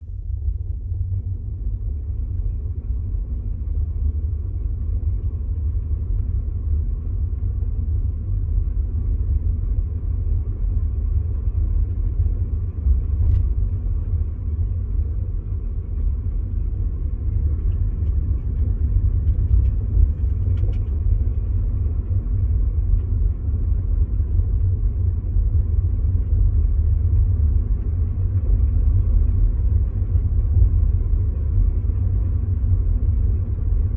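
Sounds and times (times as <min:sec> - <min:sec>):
car low rumble: 0:00.0 - 0:33.9.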